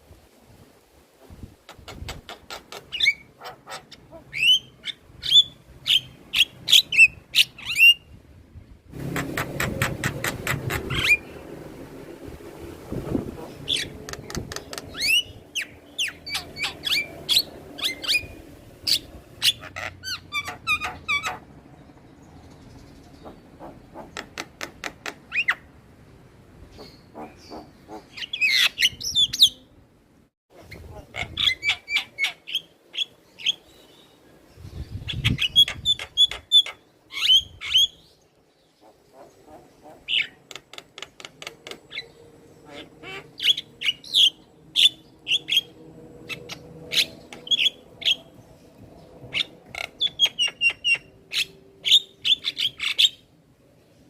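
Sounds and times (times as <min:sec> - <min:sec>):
myna bird singing: 0:01.8 - 0:08.2, 0:09.0 - 0:11.7, 0:13.1 - 0:25.7, 0:26.6 - 0:29.8, 0:30.6 - 0:54.0.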